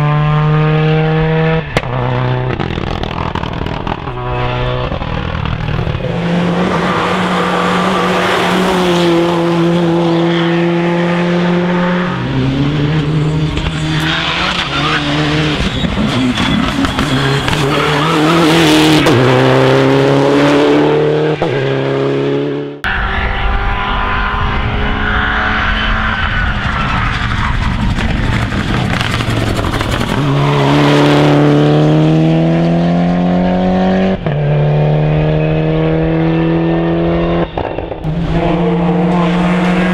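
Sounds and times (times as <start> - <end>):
rally car engines revving hard: 0.0 - 39.9.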